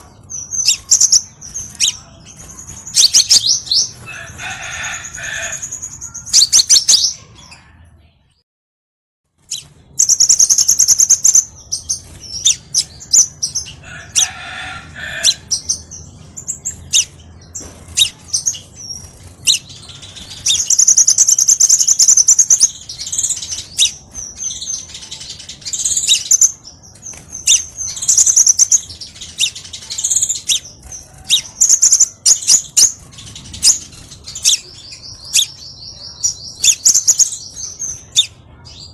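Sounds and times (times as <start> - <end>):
sunbird chirping and trilling: 0.0 - 8.3, 9.3 - 38.9.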